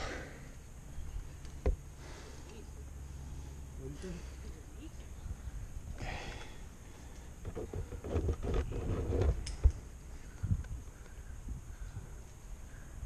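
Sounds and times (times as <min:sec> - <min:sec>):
low rumble and rustling: 0:00.0 - 0:13.0.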